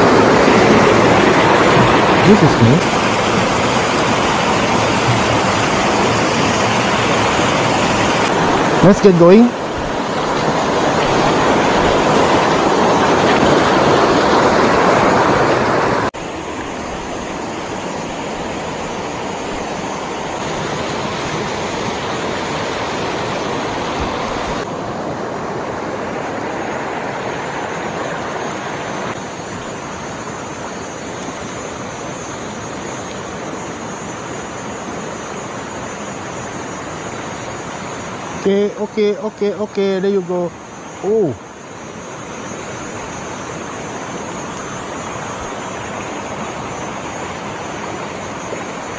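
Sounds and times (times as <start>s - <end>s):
water rushing over stones: 0.0s - 48.9s.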